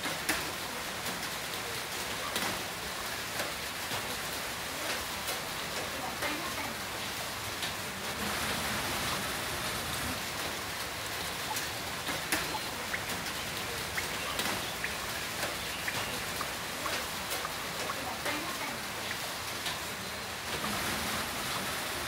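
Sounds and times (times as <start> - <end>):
heavy rain: 0.0 - 22.0
raindrops pinging on surface: 0.0 - 22.0.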